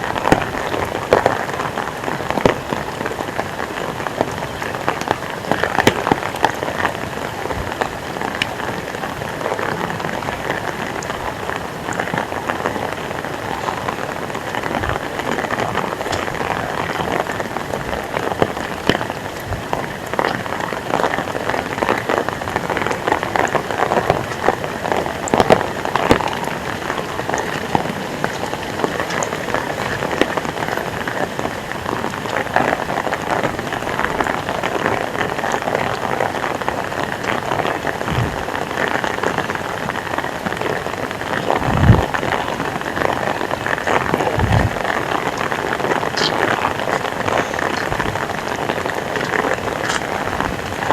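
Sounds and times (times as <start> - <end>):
close drips and splashes: 0.0 - 50.9
heavy rain: 0.0 - 50.9.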